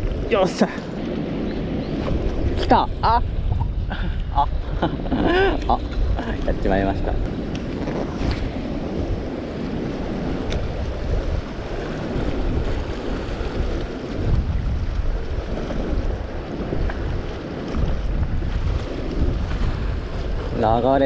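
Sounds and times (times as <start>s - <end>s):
wind gusting on microphone: 0.0s - 21.0s.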